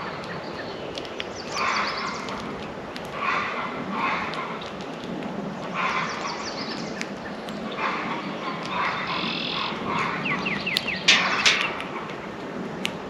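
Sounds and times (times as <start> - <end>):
songbirds harsh chatters: 0.0 - 13.0
sharp clicks: 0.2 - 9.1, 9.7 - 13.0.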